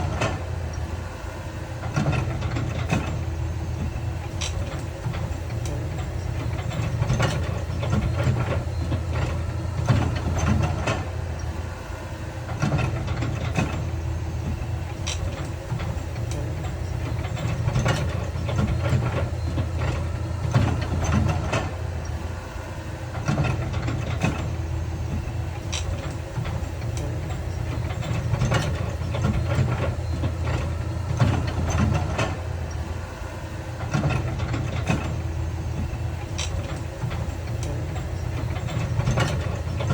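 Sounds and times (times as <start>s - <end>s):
diesel construction machinery rumbling: 0.0s - 39.9s.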